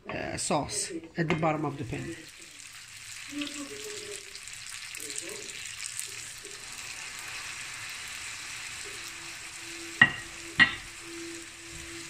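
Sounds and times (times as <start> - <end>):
pasta sizzling in a skillet: 1.6 - 12.0.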